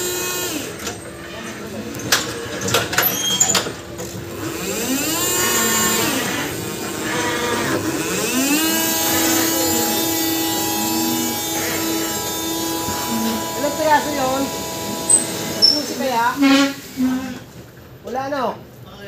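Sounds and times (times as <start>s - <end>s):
electric motors whining: 0.0s - 17.6s.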